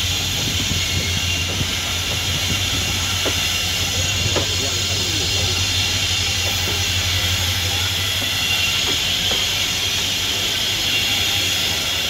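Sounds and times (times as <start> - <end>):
train wheels hissing on rails: 0.0 - 12.0.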